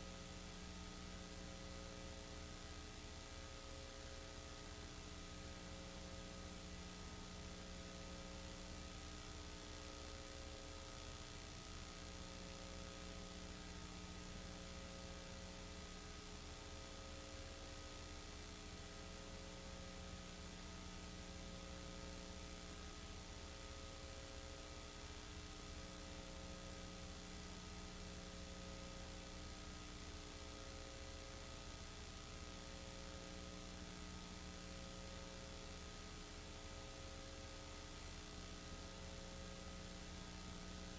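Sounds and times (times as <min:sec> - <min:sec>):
electrical hum with hiss: 0:00.0 - 0:40.9.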